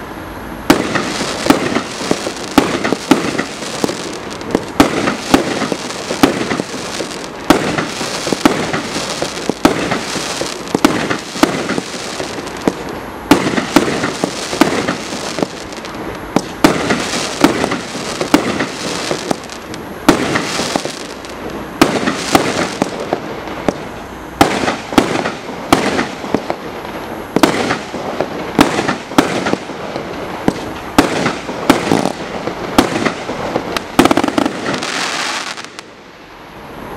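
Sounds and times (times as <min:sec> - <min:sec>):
fireworks crackling: 0:00.0 - 0:36.9
fireworks bangs: 0:00.6 - 0:36.0.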